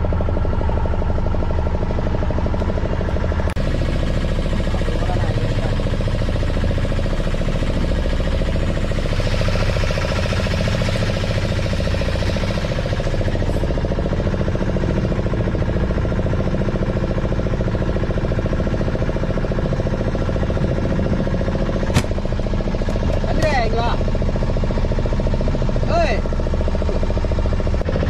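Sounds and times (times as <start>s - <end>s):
boat engine idling: 0.0s - 28.0s.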